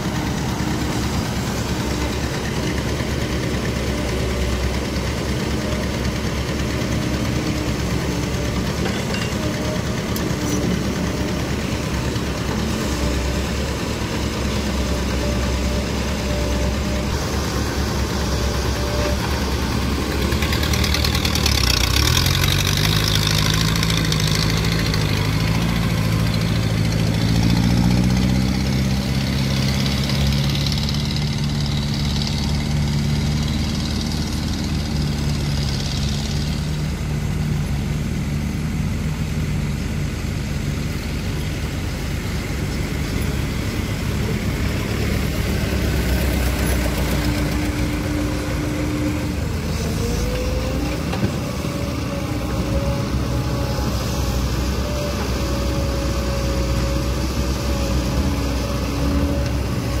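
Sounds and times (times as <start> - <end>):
dump truck engines running: 0.0 - 60.0
excavator engine under load: 0.0 - 60.0.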